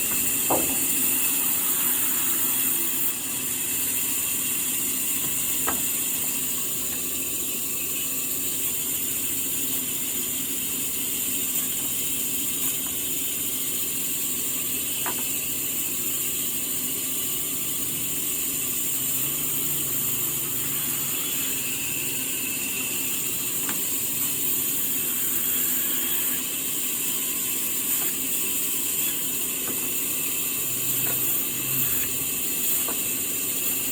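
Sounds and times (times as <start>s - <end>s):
sawmill saw high hiss: 0.0s - 33.9s.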